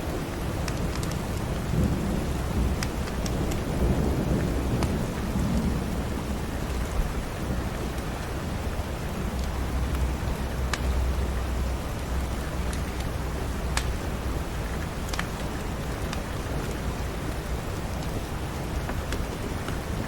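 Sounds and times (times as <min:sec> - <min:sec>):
steady rain: 0:00.0 - 0:20.0
wood fire popping and crackling: 0:00.0 - 0:20.0.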